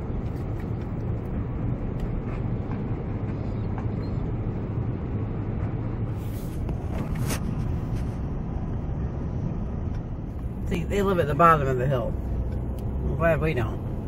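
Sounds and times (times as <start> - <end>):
road and wind rumble: 0.0 - 14.0.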